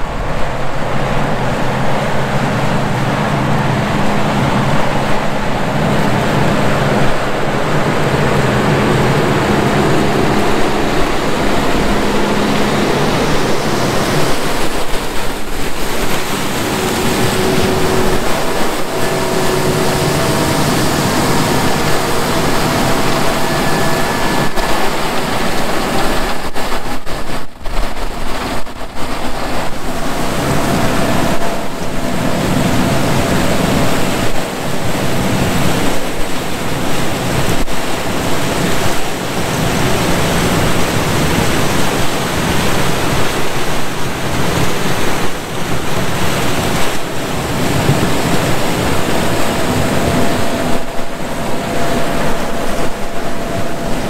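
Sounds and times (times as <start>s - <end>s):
combine harvester engine and threshing: 0.0s - 54.0s
faint steady whine: 0.0s - 54.0s
wind buffeting microphone: 0.0s - 54.0s.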